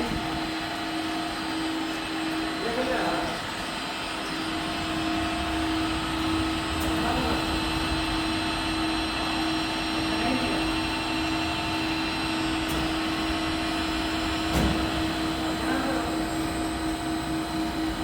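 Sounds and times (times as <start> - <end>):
milling machine hum: 0.0 - 18.0.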